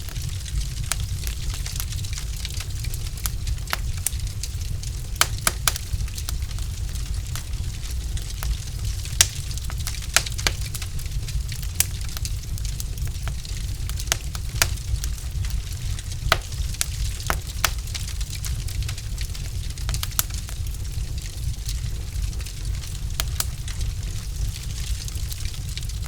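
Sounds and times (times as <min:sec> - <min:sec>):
fire hiss: 0:00.0 - 0:26.0
logs crackling in fireplace: 0:00.0 - 0:26.0.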